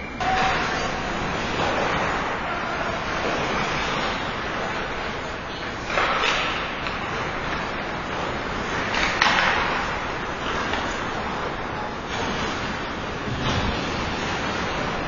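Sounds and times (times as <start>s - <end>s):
skates scraping on ice: 0.2s - 15.0s.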